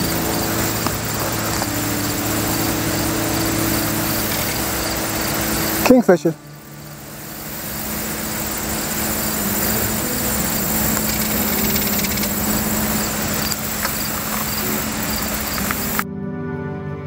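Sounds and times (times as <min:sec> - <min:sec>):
insects chirping faintly: 0:00.0 - 0:16.0
jet aircraft roar: 0:00.0 - 0:16.0.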